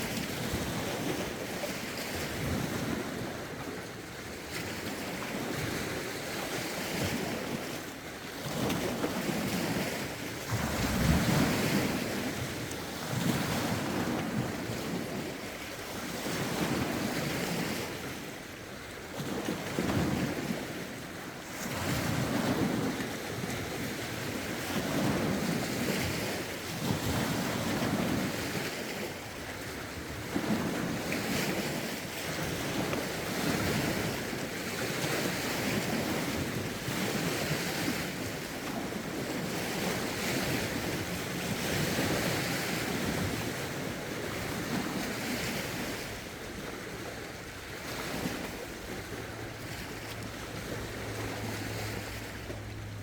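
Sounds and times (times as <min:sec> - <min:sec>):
lake waves washing ashore: 0:00.0 - 0:53.0.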